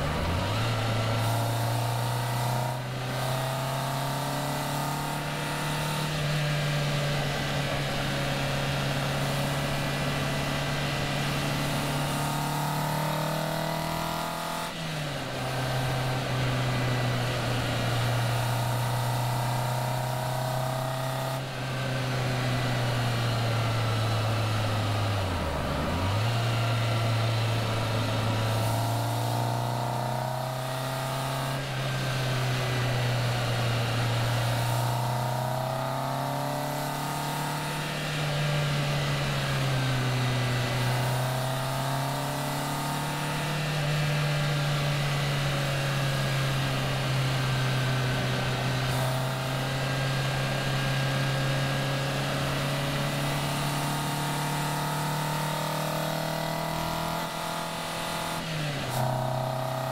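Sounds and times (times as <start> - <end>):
car engine running: 0.0 - 59.9
wind and road noise: 0.0 - 59.9.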